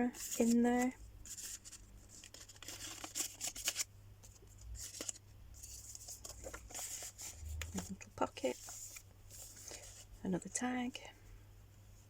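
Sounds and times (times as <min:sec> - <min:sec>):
paper pages rustling: 0:00.1 - 0:10.1.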